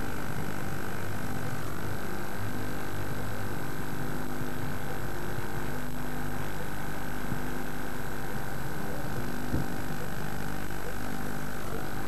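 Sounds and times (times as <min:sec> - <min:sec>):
droning hum: 0:00.0 - 0:12.0.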